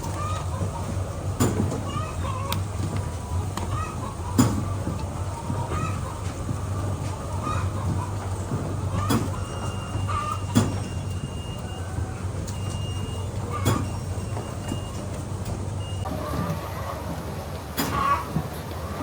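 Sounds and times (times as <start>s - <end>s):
hens clucking faintly: 0.0s - 19.0s
machinery humming: 0.0s - 19.0s.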